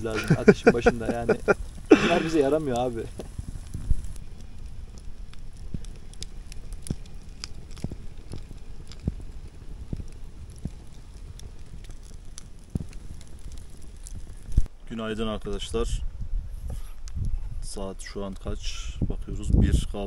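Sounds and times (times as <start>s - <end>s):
low steady rush: 0.0s - 16.3s
campfire crackling and popping: 0.0s - 20.0s.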